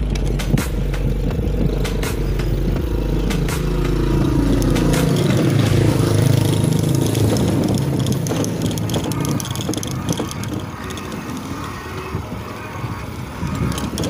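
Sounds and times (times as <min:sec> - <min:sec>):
light street traffic: 0:00.0 - 0:14.0
motorcycle engine passing: 0:00.0 - 0:14.0
wind noise: 0:00.0 - 0:14.0.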